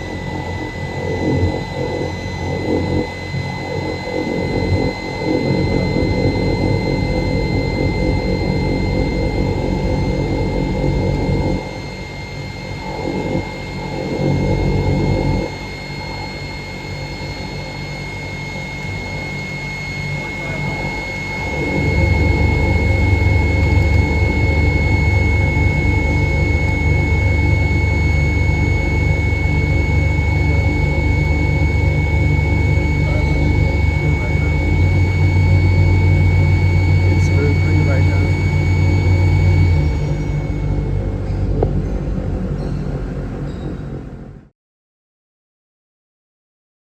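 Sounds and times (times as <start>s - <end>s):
high machine whine: 0.0s - 44.5s
machine mechanical hum: 0.0s - 44.5s.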